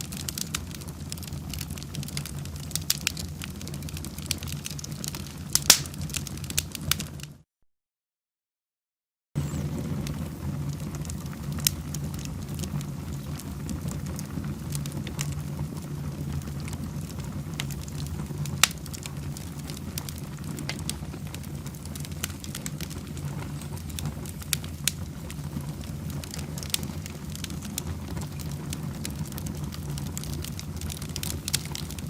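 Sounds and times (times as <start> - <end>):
fire crackling and popping: 0.0 - 7.4, 9.4 - 32.0.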